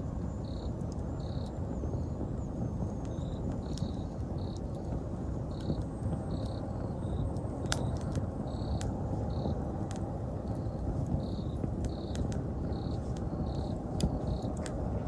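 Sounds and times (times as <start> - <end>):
insects chirping: 0.0 - 9.6, 10.6 - 14.6
campfire crackling and popping: 0.0 - 15.0
low fire rumble: 0.0 - 15.0.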